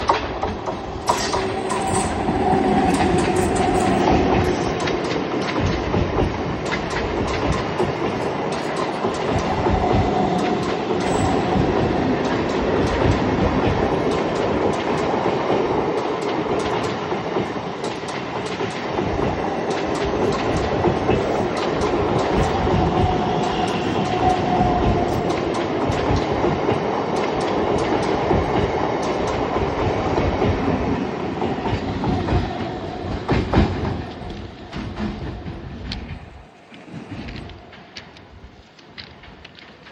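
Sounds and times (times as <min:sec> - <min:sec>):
passenger train running: 0:00.0 - 0:39.9
train wheels clicking over rail joints: 0:00.0 - 0:39.9.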